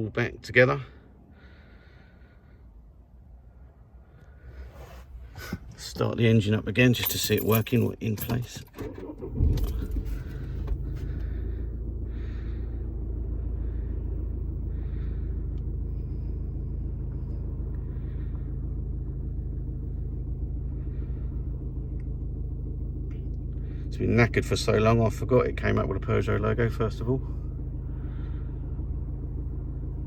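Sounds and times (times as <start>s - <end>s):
car engine starting and idling: 0.6s - 30.0s.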